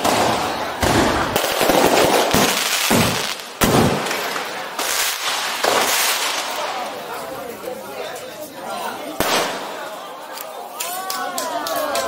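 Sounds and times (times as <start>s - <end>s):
firework crackle: 0.0s - 7.5s, 9.1s - 11.8s.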